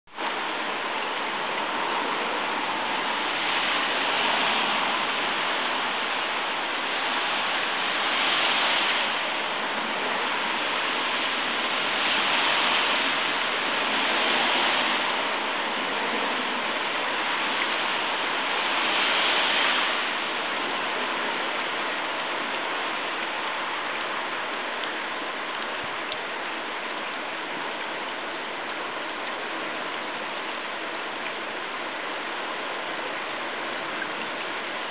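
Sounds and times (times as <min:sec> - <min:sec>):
falling water hiss: 0:00.2 - 0:34.9.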